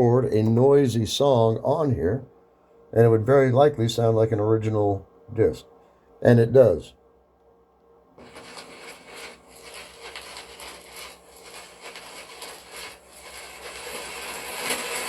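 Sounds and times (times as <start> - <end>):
record surface hiss and crackles: 0.0 - 15.0.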